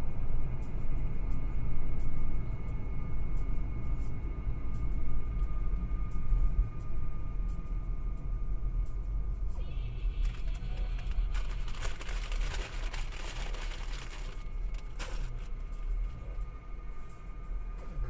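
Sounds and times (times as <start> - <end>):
car driving low rumble: 0.0 - 18.0.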